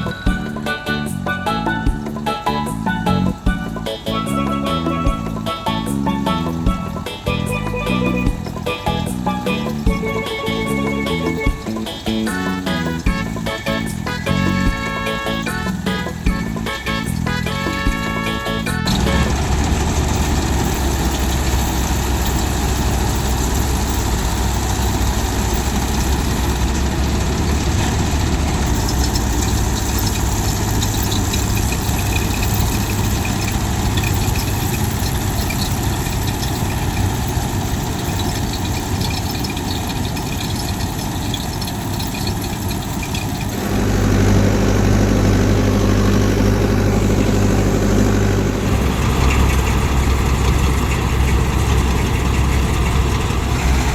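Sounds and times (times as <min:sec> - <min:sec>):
deep engine hum: 0:00.0 - 0:53.9
farm machinery engine running: 0:00.0 - 0:53.9.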